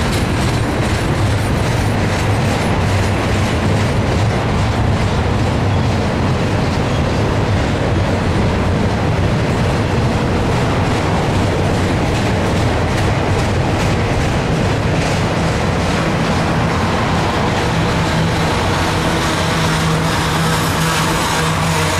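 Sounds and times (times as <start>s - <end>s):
steel wheels rumbling on rail: 0.0s - 21.9s.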